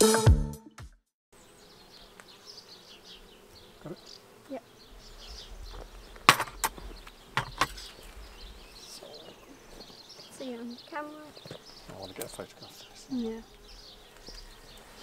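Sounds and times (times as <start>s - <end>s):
honey bees buzzing: 1.4s - 15.0s.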